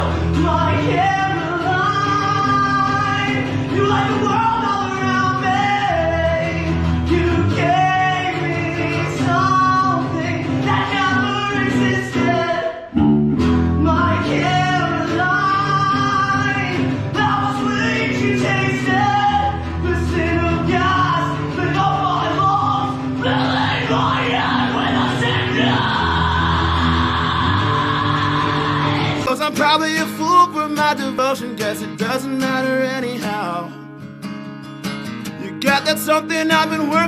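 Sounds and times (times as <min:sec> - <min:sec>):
rock song with singing: 0:00.0 - 0:33.8, 0:35.4 - 0:37.0.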